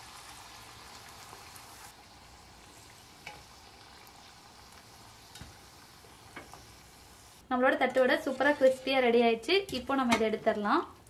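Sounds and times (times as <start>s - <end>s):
food deep-frying in oil: 0.0s - 9.2s.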